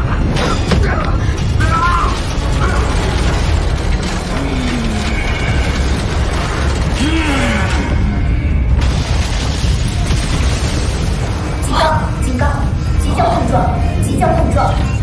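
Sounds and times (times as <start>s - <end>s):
action soundtrack music: 0.0s - 15.0s
low rumble: 0.0s - 15.0s
mechanical sci-fi sound effects: 0.0s - 15.0s.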